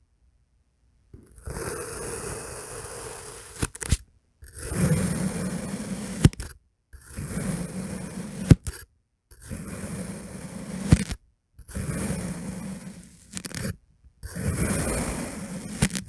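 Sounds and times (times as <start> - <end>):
knife cutting through sand: 1.4 - 16.0.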